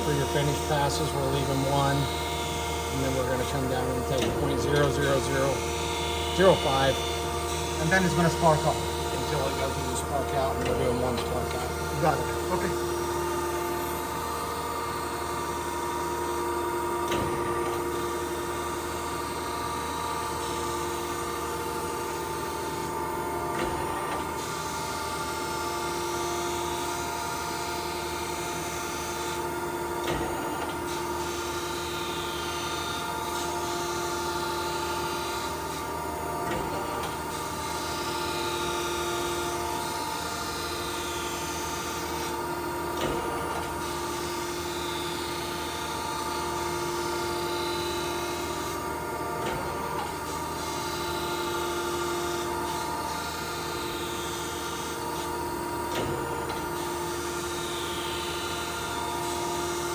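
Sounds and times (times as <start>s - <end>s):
grinder machine humming: 0.0s - 59.9s.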